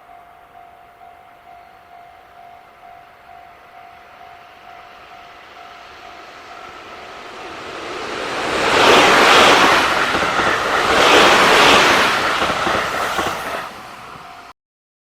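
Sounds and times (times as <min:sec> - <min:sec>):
crossing warning bell ringing: 0:00.0 - 0:14.5
freight train roaring past: 0:00.0 - 0:14.5.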